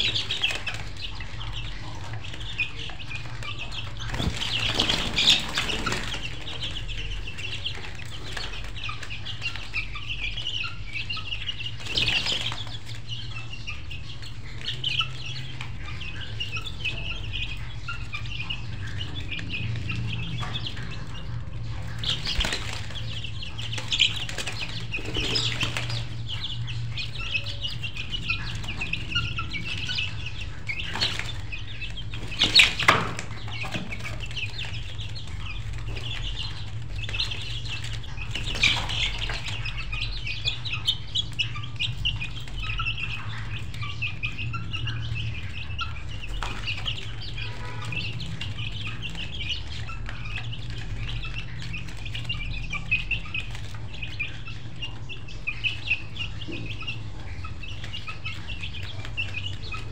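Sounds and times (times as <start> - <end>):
chickens cheeping and clucking: 0.0 - 59.9.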